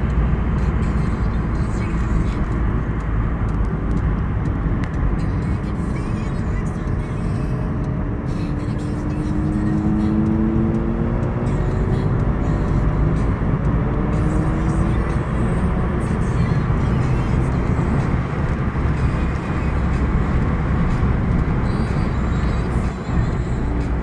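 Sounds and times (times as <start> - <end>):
car engine accelerating: 0.0 - 24.0
outdoor vehicle rumble: 0.0 - 24.0.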